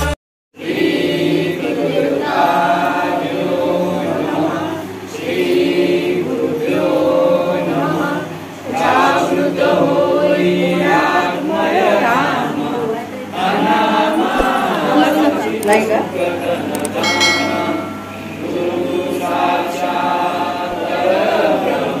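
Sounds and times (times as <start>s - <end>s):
voices singing devotional song: 0.0s - 22.0s.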